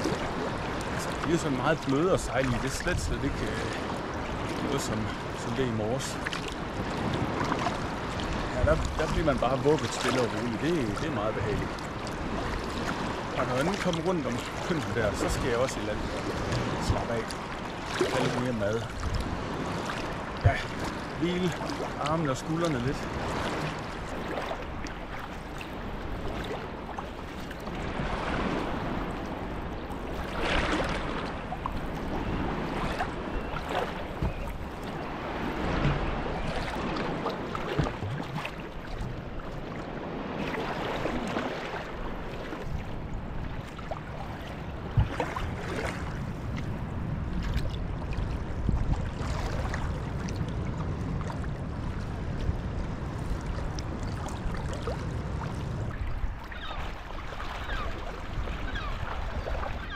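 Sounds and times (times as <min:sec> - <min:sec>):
paddle splashing in water: 0:00.0 - 0:52.5, 0:53.1 - 0:59.9.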